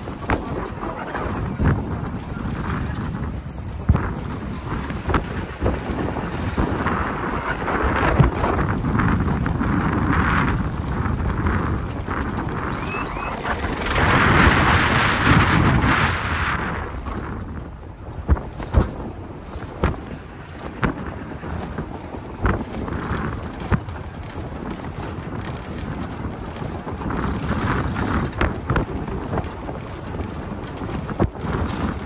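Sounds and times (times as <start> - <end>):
knocks and rattles from bumps: 0.0 - 32.0
off-road vehicle rumbling: 0.0 - 32.0.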